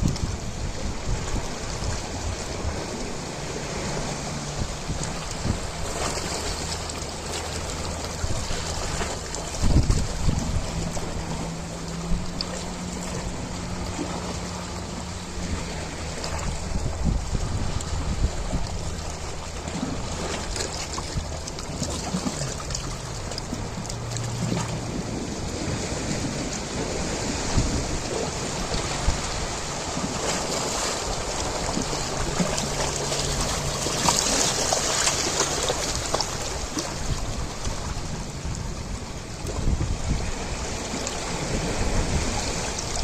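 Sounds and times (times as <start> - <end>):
ocean waves breaking: 0.0 - 43.0.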